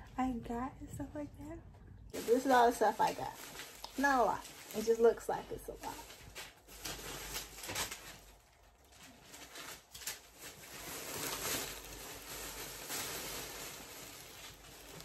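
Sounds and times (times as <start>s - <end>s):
plastic bag rustling: 2.1s - 15.0s.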